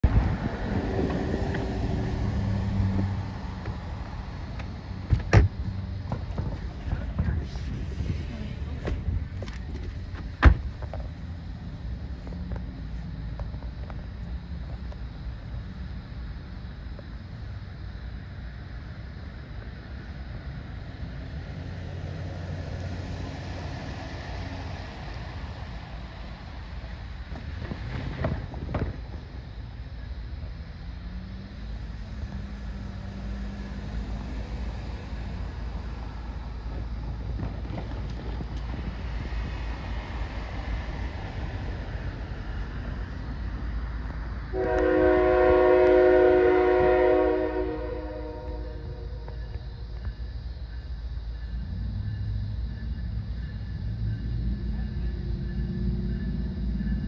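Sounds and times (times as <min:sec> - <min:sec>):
car engine and road rumble: 0:00.0 - 0:57.0
pickup truck approaching: 0:00.0 - 0:57.0.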